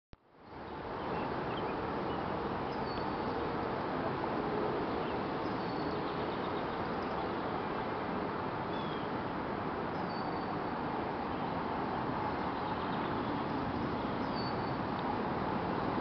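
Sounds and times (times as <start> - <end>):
wind rushing through grass: 0.3 - 16.0.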